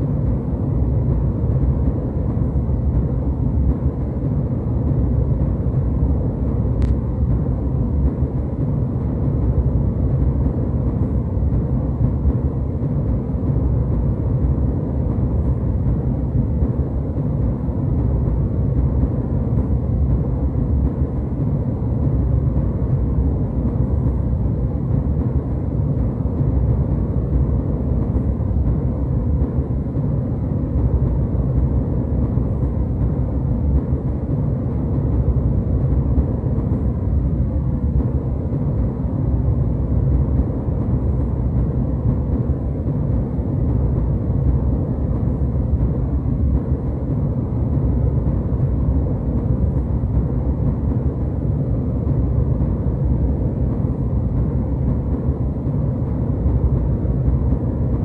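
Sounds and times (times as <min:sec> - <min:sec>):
jetliner cabin noise: 0:00.0 - 0:58.0.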